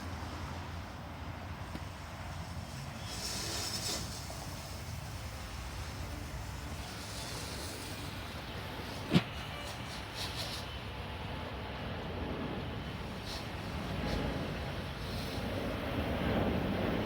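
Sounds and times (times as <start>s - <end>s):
distant jet engines rumbling: 0.0s - 17.0s.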